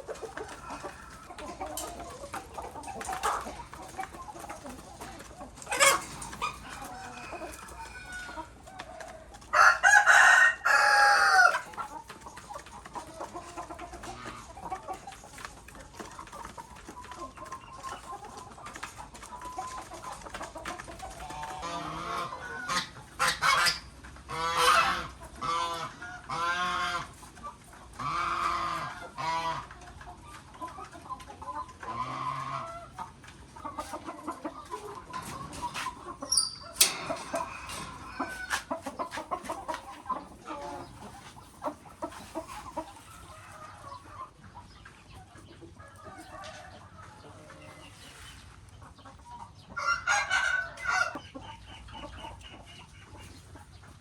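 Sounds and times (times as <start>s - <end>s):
chickens clucking and calling: 0.0s - 54.0s.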